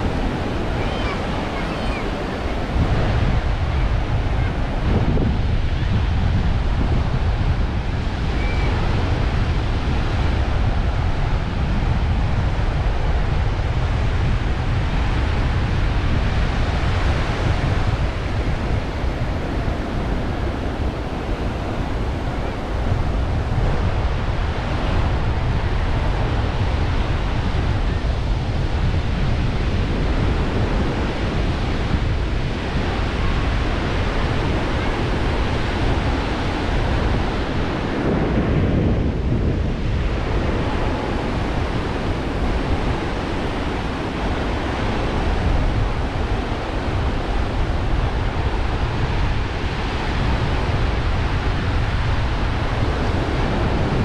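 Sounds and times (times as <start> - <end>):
ocean surf washing onto beach: 0.0 - 54.0
wind buffeting microphone: 0.0 - 54.0.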